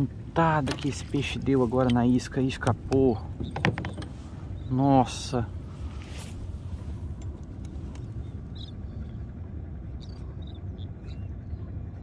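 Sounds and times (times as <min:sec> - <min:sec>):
low rumbling: 0:00.0 - 0:12.0.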